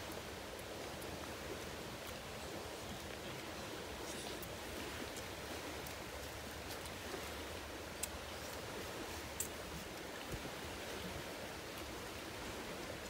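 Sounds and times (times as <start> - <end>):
hissing outdoor background noise: 0.0 - 13.0.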